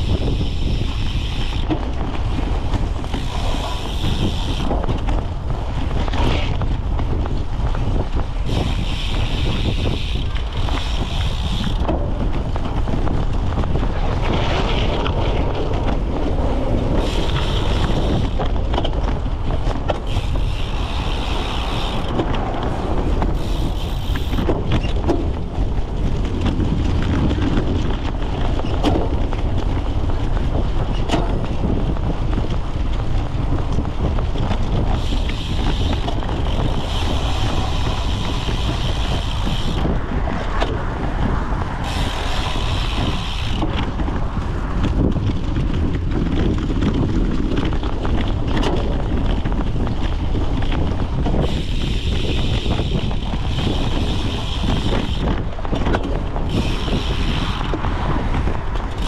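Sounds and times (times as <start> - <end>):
bike rattling and clicking: 0.0 - 59.0
wind buffeting microphone: 0.0 - 59.0.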